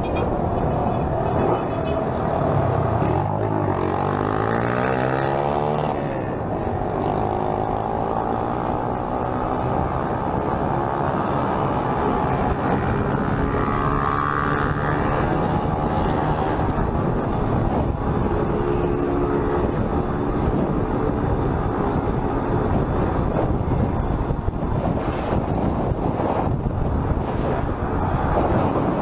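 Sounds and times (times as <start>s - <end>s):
motorcycle engines revving: 0.0s - 29.0s
wind noise: 0.0s - 29.0s.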